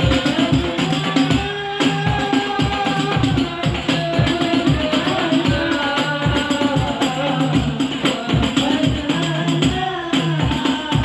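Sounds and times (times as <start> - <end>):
drum beat: 0.0 - 11.0.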